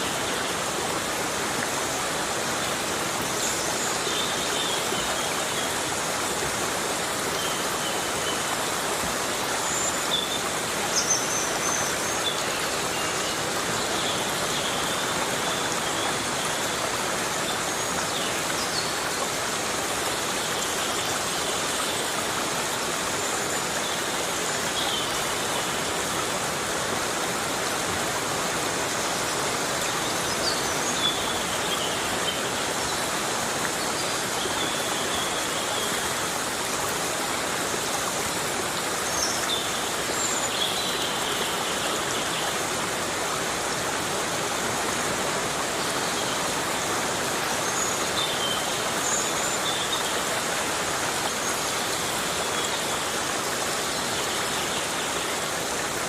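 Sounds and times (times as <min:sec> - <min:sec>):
heavy rain in forest: 0:00.0 - 0:56.0.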